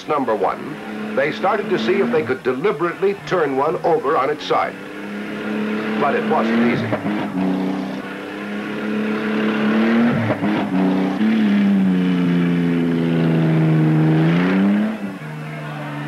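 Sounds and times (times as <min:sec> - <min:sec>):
truck engine running under load: 0:00.0 - 0:16.0.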